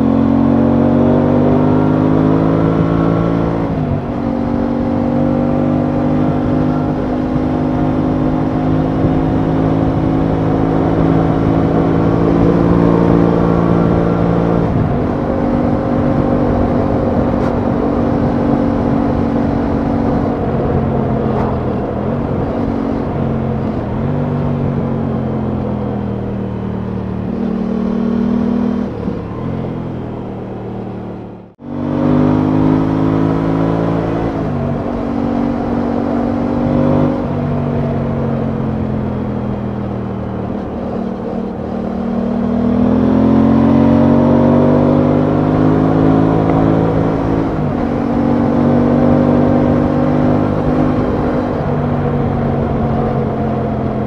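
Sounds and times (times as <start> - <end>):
motorcycle engine running: 0.0 - 54.0
wind rumble: 0.0 - 54.0.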